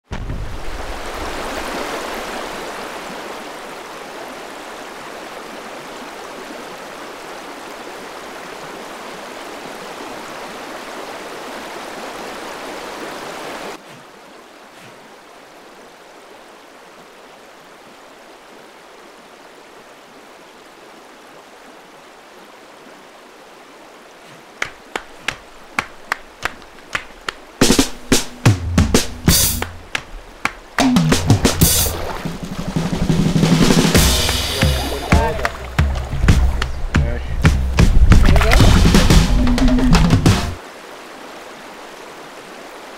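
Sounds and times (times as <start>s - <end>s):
river water rushing over stones: 0.2s - 42.9s.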